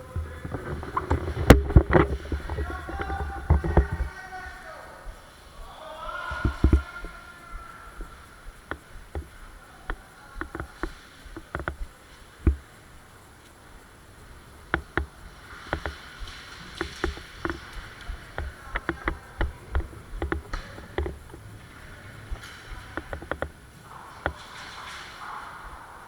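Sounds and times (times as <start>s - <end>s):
sharp clicks and knocks: 0.0s - 25.8s.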